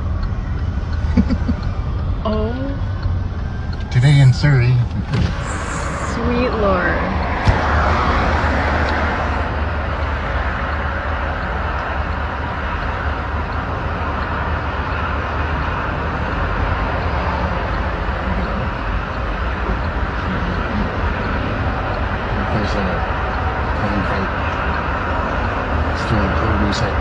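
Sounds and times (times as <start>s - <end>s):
low engine rumble: 0.0s - 27.0s.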